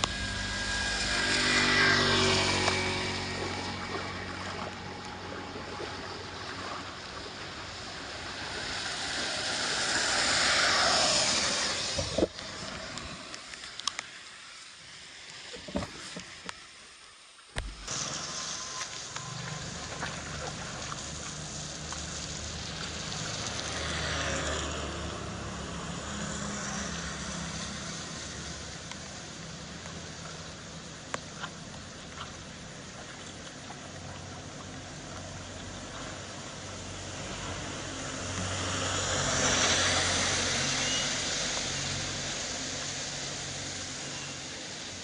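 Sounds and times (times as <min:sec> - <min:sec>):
floodwater rushing through drain: 0:00.0 - 0:45.0.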